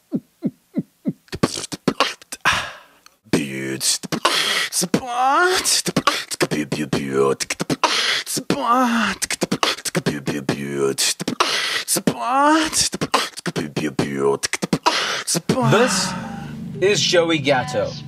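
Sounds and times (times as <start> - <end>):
man beatboxing: 0.0 - 16.2.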